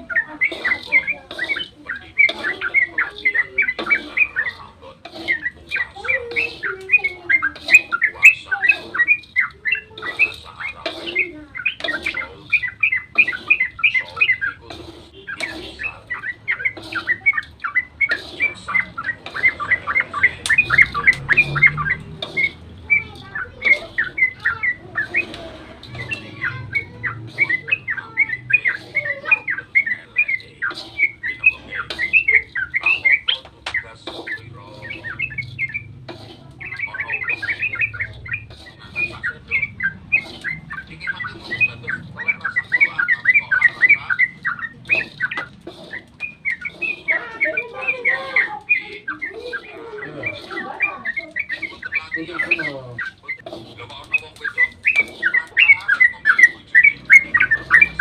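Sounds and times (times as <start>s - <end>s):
bird chattering song: 0.0s - 58.0s.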